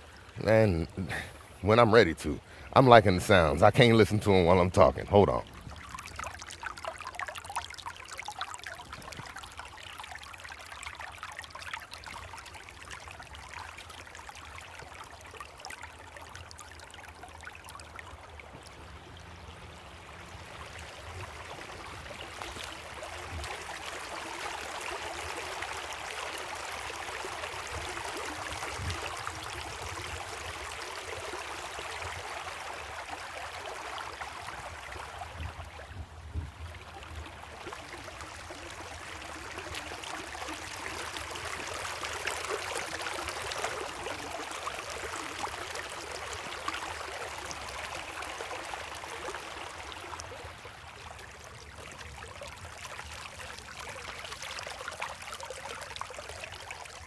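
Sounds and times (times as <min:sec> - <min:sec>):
creek water trickling: 0:00.0 - 0:57.0.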